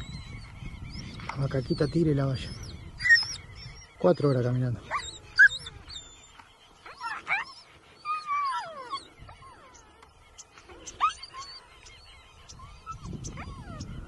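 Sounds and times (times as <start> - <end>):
high gliding animal cries: 1.9 - 14.0.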